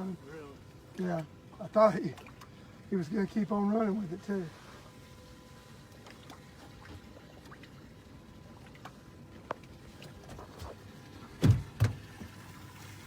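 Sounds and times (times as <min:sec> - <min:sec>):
water lapping against boat hull: 0:00.1 - 0:13.0.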